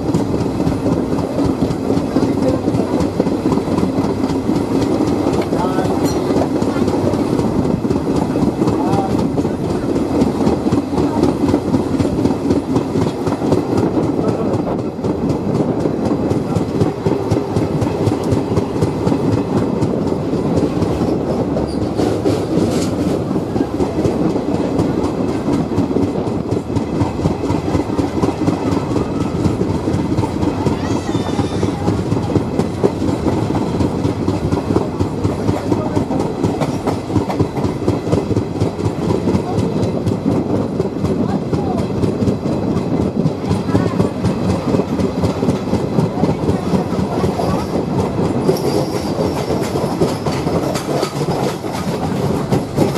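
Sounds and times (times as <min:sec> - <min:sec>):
train coaches rumbling: 0:00.0 - 0:52.9
wheels clicking over rail joints: 0:00.0 - 0:52.9.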